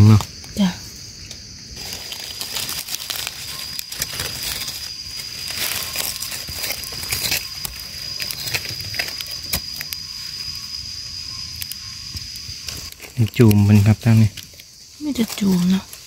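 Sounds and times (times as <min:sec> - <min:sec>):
dry leaves crackling underfoot: 0:01.8 - 0:11.0, 0:11.6 - 0:16.0.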